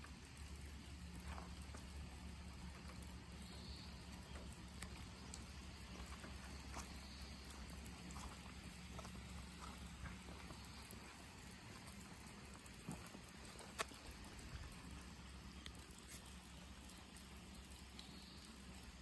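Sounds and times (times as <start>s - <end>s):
light rain dripping and pattering: 0.0s - 19.0s
low steady hum: 0.0s - 19.0s.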